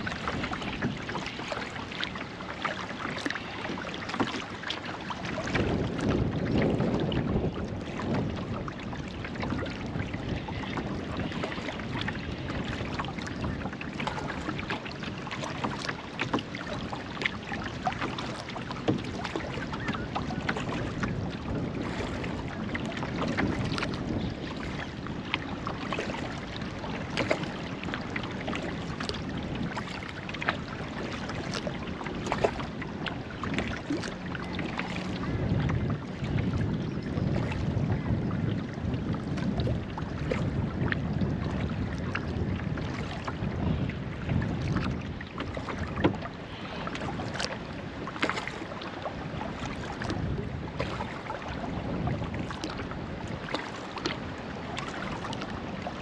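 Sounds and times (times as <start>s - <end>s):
kayak paddle splashing water: 0.0s - 56.0s.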